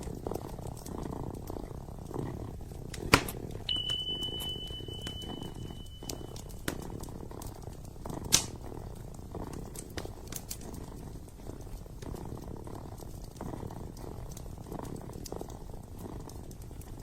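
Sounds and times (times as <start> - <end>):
kitten purring: 0.0 - 17.0
wood fire crackling: 0.0 - 17.0.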